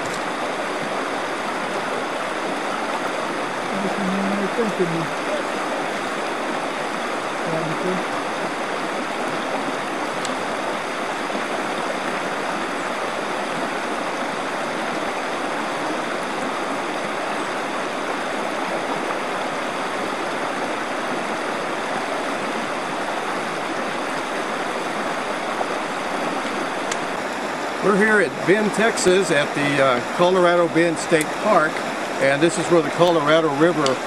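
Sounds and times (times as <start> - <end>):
water rushing over gravel: 0.0 - 34.0.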